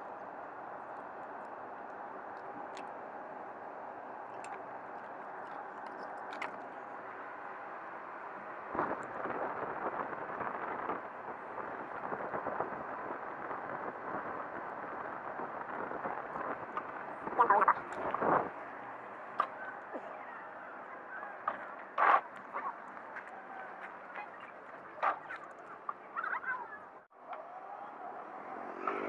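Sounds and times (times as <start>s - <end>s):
background hum: 0.0s - 27.1s.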